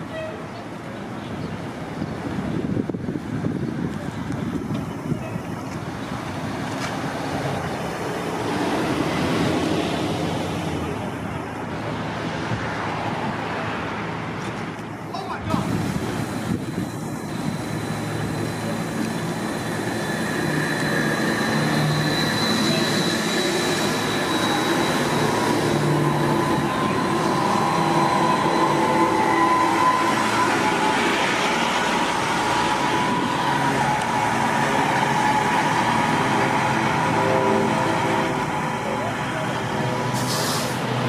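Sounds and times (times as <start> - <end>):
electric trolleybus whining: 0.0 - 41.0.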